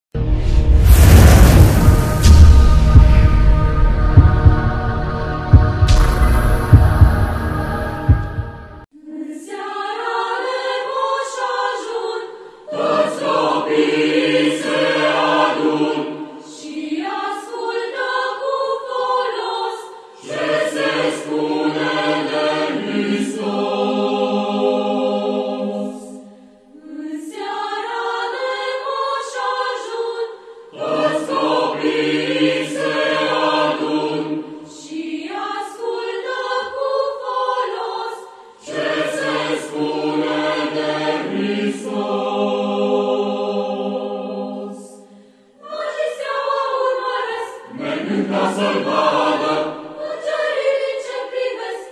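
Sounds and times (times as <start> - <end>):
choir singing slow song: 0.2 - 51.9.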